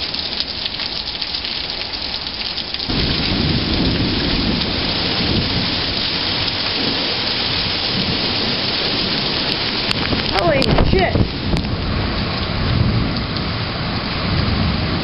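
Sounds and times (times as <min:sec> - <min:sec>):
heavy rain hissing: 0:01.7 - 0:15.0
thunder rumbling: 0:02.9 - 0:15.0.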